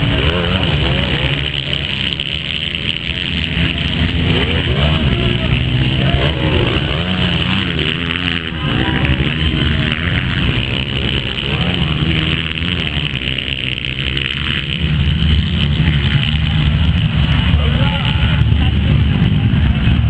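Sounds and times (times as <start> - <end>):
motocross engines revving: 0.0 - 20.0.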